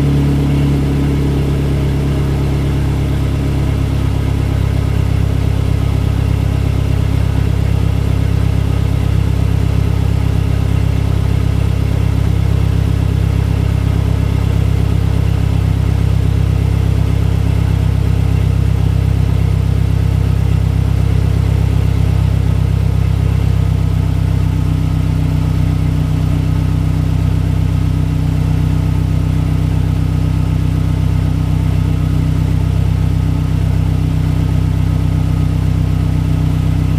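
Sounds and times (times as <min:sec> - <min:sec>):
turbocharged engine idling: 0:00.0 - 0:36.9.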